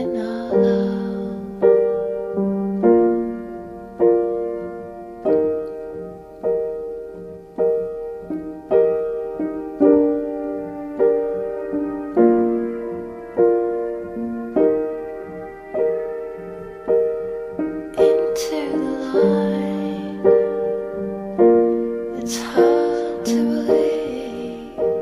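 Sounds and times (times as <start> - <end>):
gentle piano chords: 0.0 - 25.0.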